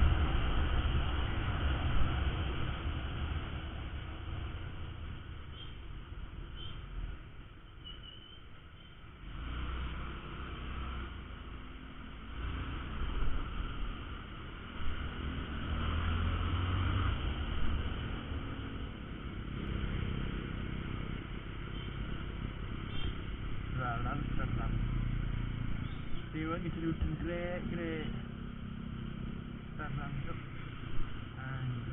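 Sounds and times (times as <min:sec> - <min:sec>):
road and wind noise: 0:00.0 - 0:31.9.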